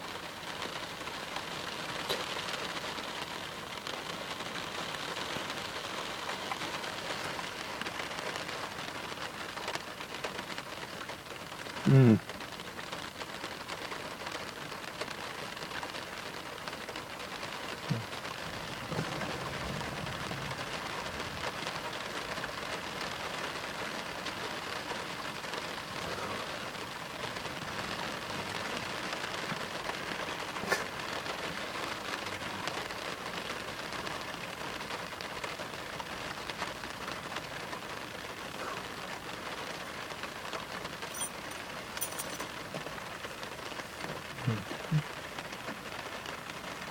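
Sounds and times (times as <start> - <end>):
rain on a car roof: 0.0 - 46.9.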